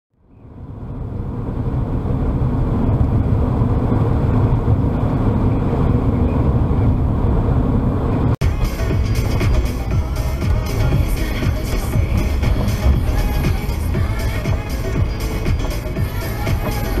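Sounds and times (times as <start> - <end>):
car engine and tyre drone: 0.1 - 17.0.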